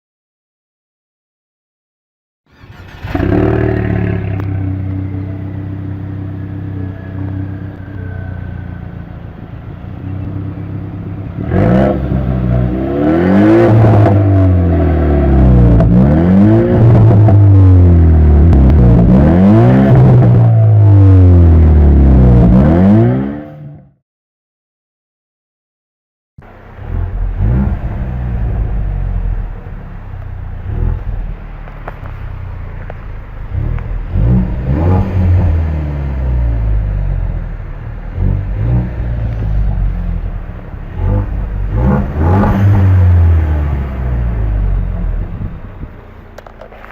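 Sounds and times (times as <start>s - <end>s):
car engine idling and revving: 2.5s - 23.9s, 26.4s - 46.9s.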